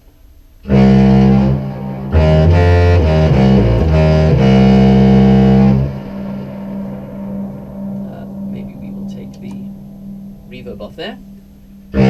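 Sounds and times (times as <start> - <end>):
distorted low clarinet tone: 0.6 - 12.0.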